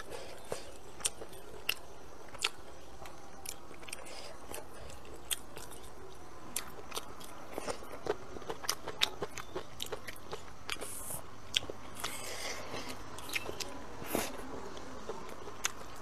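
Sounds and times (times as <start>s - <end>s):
person chewing and biting food: 0.0s - 14.4s.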